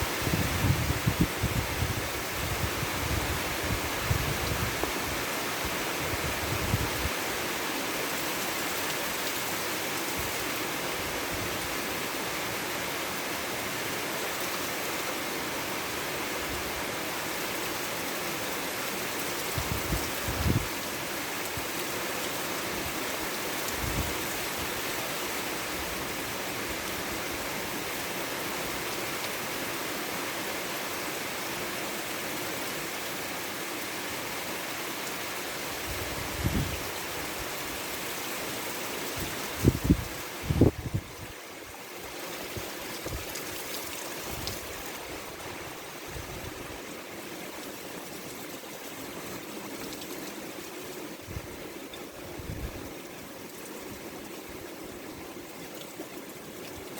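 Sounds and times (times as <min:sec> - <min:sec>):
steady rainfall: 0:00.0 - 0:56.9.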